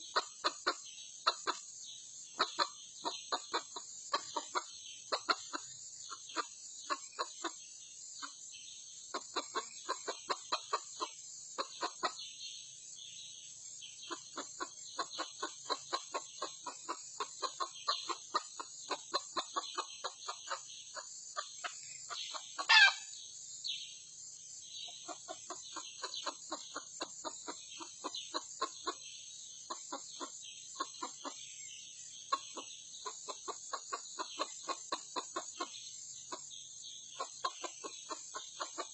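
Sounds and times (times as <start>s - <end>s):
junglefowl clucking: 0.0s - 1.7s, 2.3s - 12.3s, 14.0s - 23.2s, 24.8s - 38.9s.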